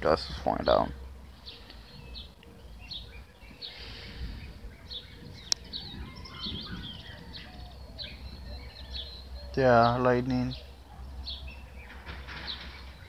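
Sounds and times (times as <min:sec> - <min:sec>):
low outdoor background rumble: 0:00.0 - 0:13.0
small birds chirping: 0:00.0 - 0:13.0.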